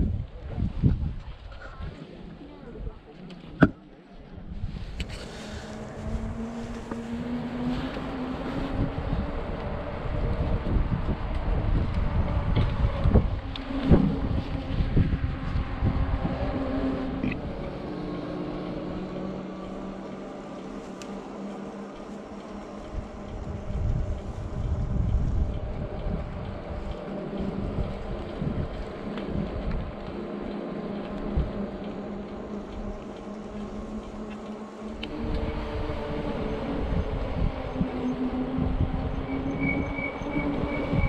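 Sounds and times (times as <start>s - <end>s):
wind rush on microphone: 0.0s - 41.0s.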